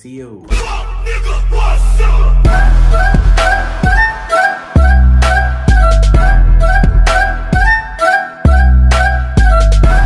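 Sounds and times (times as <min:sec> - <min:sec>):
music with heavy bass beat: 0:00.5 - 0:10.0.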